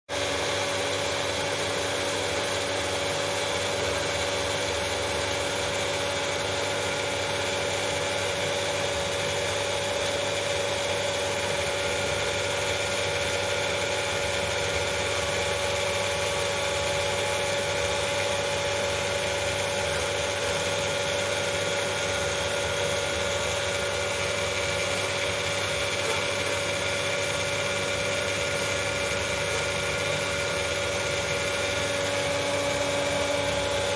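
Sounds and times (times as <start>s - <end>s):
pool pump motor humming: 0.1s - 33.9s.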